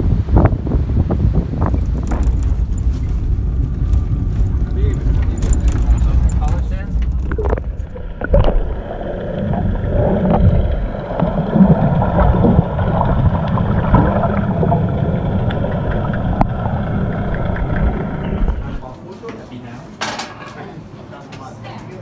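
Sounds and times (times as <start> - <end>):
muffled underwater rumbling: 0.0 - 18.9.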